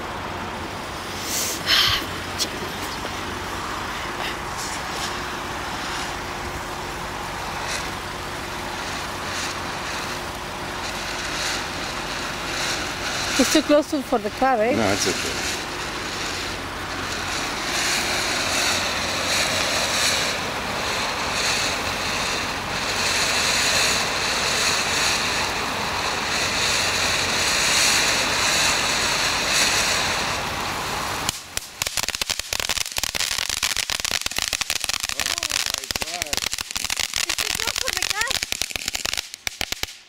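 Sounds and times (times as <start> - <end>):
firework fountain hissing: 0.0 - 40.0
firework rapid crackling: 0.0 - 40.0.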